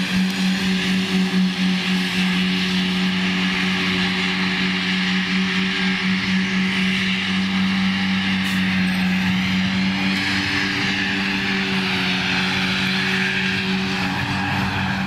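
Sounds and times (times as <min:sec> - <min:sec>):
grass cutting rushing noise: 0:00.0 - 0:15.0
tractor mower drone: 0:00.0 - 0:15.0.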